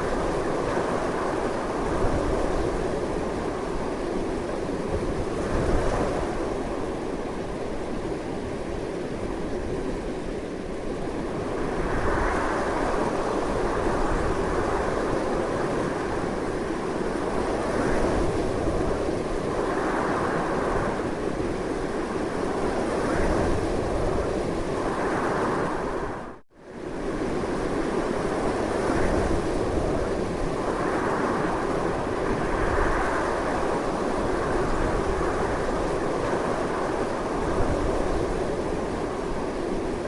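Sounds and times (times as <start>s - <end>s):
strong wind: 0.0s - 40.0s.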